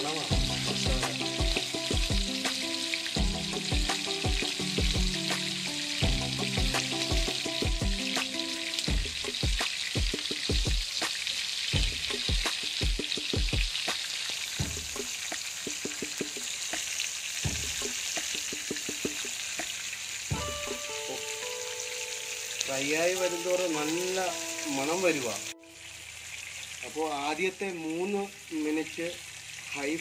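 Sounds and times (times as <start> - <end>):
oil sizzling in a pan: 0.0 - 30.0.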